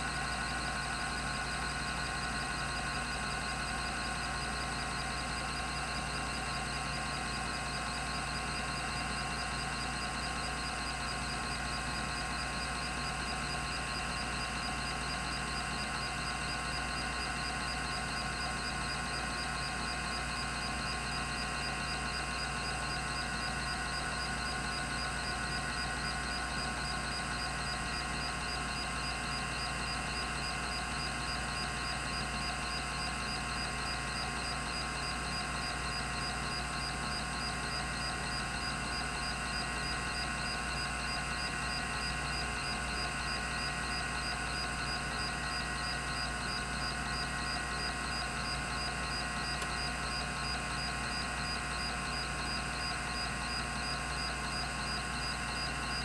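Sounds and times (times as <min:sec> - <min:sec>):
hard disk drive spinning: 0:00.0 - 0:56.0.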